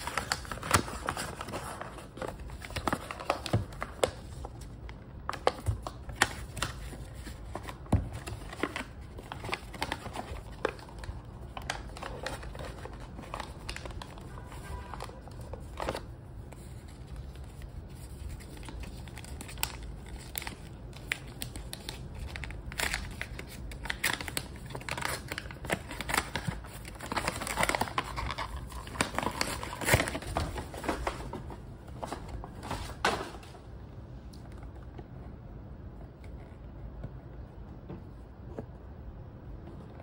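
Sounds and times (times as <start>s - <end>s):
wrapping paper crinkling: 0.0s - 33.0s.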